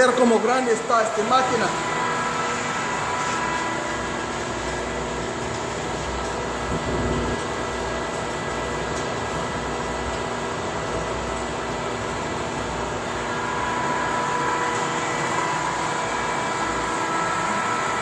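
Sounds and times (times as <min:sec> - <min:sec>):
steady machine whine: 0:00.0 - 0:18.0.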